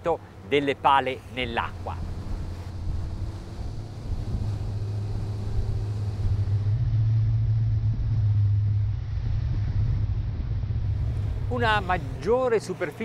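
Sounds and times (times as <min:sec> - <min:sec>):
outboard motor drone: 0:00.0 - 0:13.0
rush of boat wake: 0:00.0 - 0:13.0.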